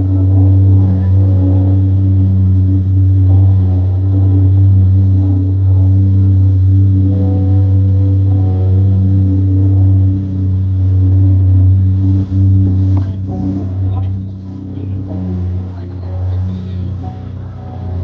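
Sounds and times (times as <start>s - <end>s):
jet ski engine drone: 0.0s - 18.0s.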